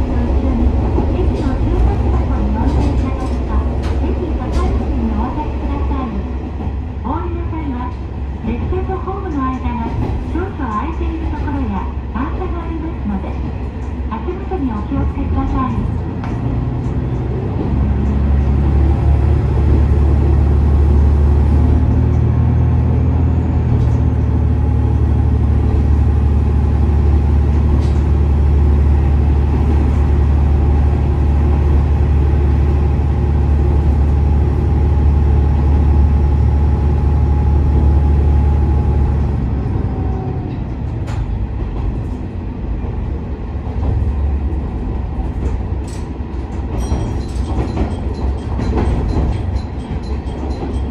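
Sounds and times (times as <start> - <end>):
diesel railcar engine drone: 0.0 - 50.9.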